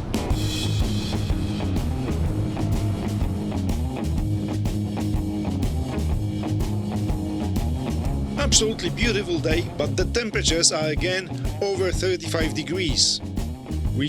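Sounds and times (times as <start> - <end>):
drum kit beat: 0.0 - 14.0
electric guitar: 0.0 - 14.0.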